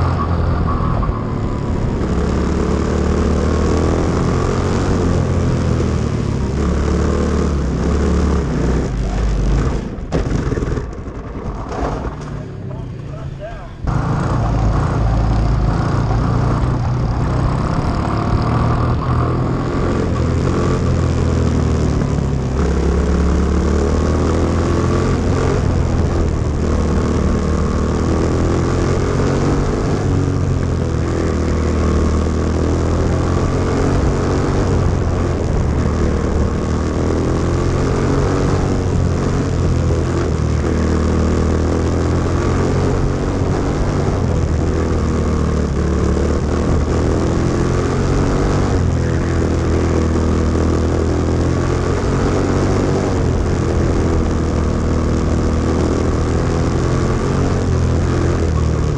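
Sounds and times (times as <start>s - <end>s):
kart engine running hard: 0.0s - 58.9s.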